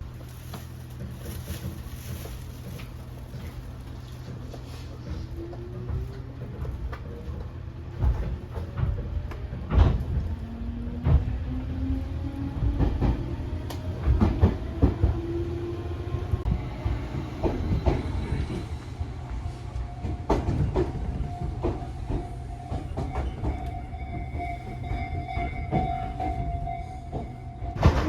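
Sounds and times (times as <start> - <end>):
train carriage low rumble: 0.0 - 28.0.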